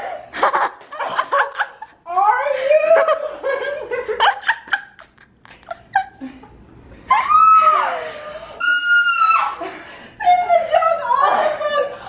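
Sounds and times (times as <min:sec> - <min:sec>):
women laughing: 0:00.0 - 0:12.0.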